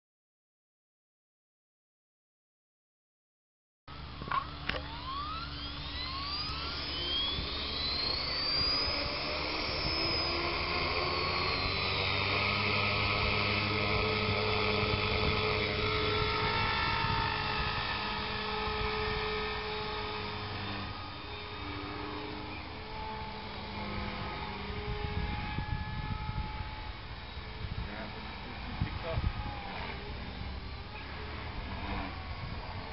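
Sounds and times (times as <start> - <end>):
rc helicopter motor whine: 3.9 - 32.9
rotor noise: 3.9 - 32.9.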